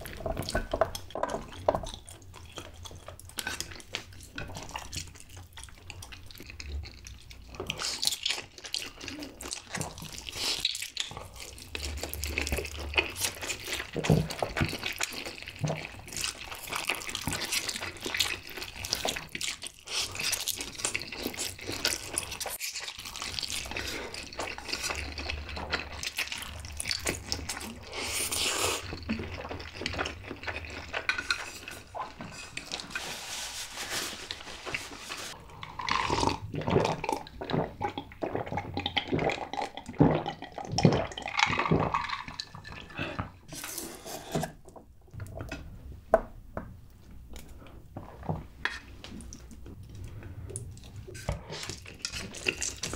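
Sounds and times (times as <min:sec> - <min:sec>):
people slurping and chewing noodles: 0:00.0 - 0:44.6, 0:47.0 - 0:52.9.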